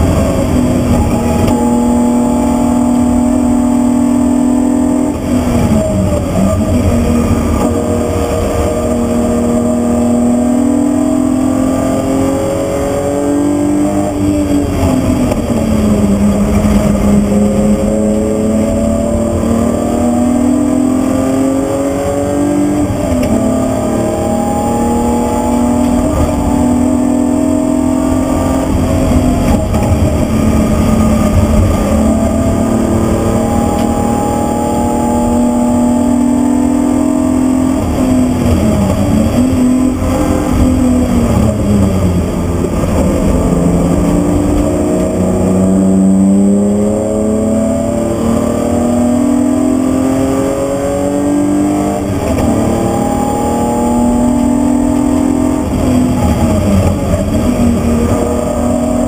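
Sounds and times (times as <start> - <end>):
car engine pulling hard: 0.0 - 59.0
road noise: 0.0 - 59.0.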